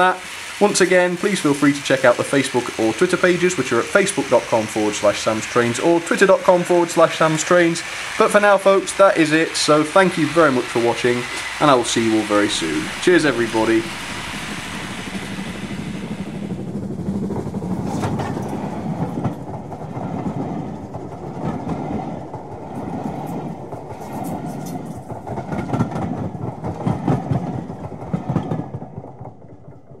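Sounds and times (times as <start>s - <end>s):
wheels clicking over rail joints: 0.0s - 15.7s, 16.7s - 30.0s
railway carriages rolling past: 0.0s - 30.0s.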